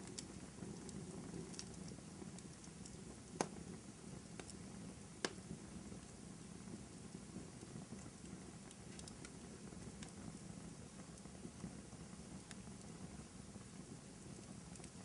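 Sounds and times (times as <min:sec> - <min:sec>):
fire burning with crackles: 0:00.0 - 0:15.0.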